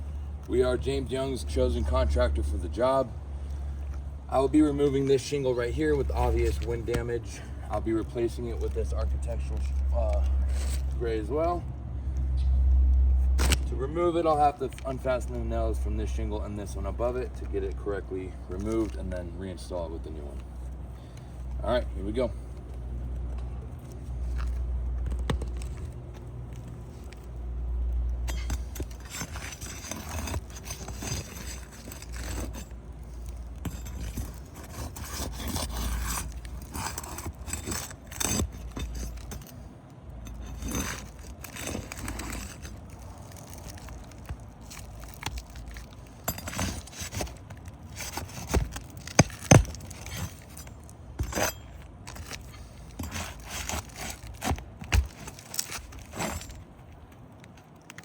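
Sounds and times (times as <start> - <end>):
roofing tools scraping and clinking: 0.0 - 11.7, 13.4 - 58.0.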